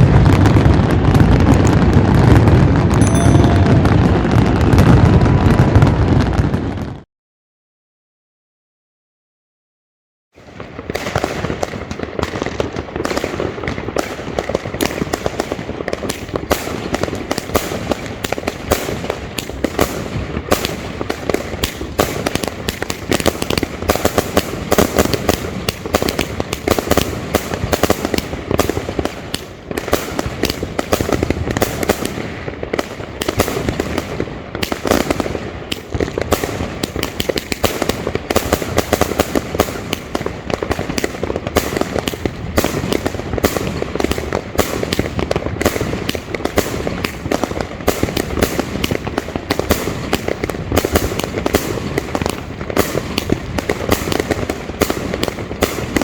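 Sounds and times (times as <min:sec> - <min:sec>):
fireworks barrage: 0:00.0 - 0:07.1, 0:10.4 - 0:56.0.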